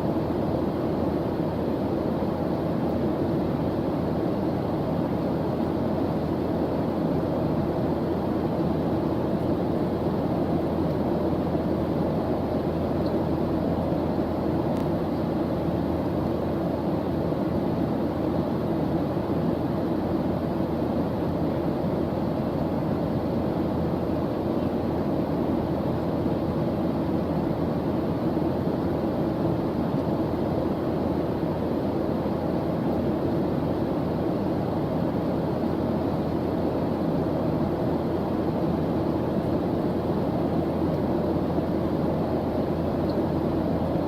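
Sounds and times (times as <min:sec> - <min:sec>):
deep white noise: 0:00.0 - 0:44.0.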